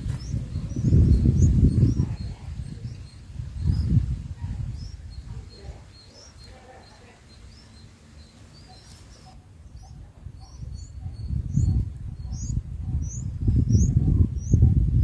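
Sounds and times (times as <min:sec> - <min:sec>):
nestlings begging chirps: 0:00.0 - 0:14.8
low buffeting rumble: 0:00.0 - 0:15.0.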